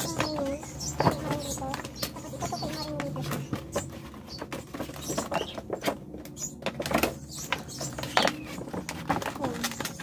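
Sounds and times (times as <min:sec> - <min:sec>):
plastic panels crinkling: 0:00.0 - 0:10.0.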